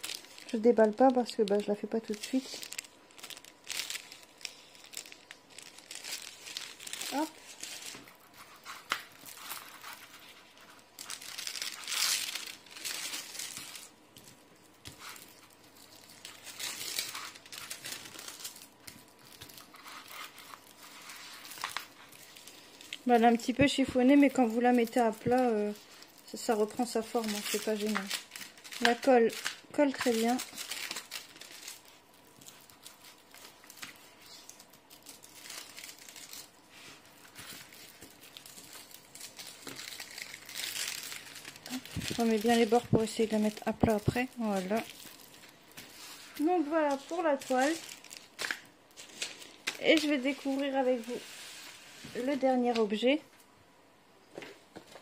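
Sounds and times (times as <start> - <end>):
plastic sheet crinkling: 0.0 - 53.2.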